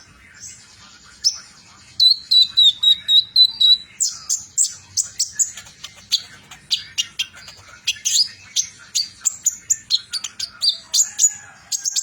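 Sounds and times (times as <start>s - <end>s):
bird singing high chirps: 0.4s - 12.0s.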